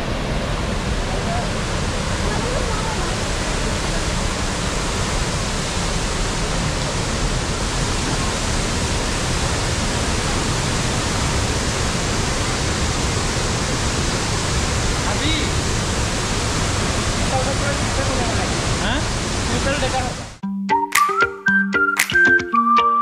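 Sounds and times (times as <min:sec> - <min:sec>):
fast-flowing water rushing: 0:00.0 - 0:20.4.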